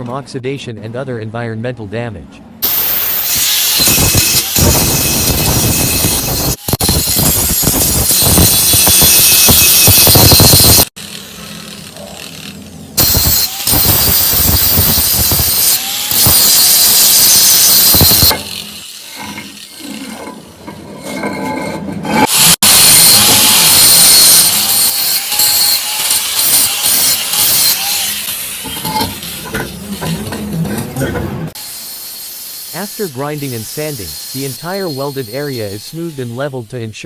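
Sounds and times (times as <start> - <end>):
angle grinder grinding steel: 2.6 - 36.9.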